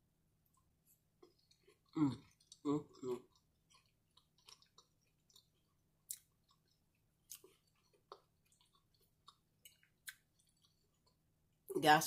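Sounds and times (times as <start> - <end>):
chewing with wet mouth clicks: 0.4 - 11.3.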